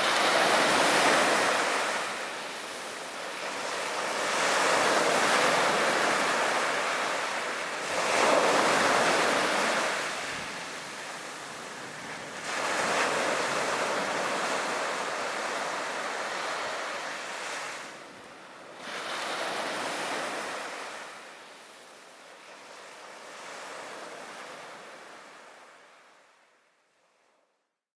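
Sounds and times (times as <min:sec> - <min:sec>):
sea waves breaking on beach: 0:00.0 - 0:26.4.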